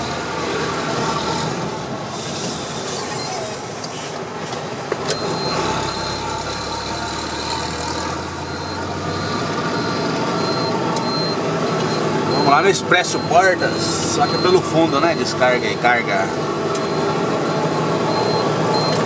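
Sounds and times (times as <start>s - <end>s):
diesel truck engine exhaust: 0.0s - 19.0s.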